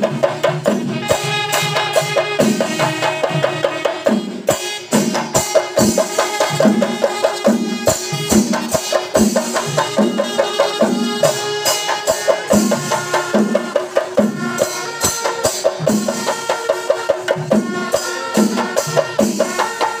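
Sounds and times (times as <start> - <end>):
drums beaten with sticks: 0.0 - 20.0.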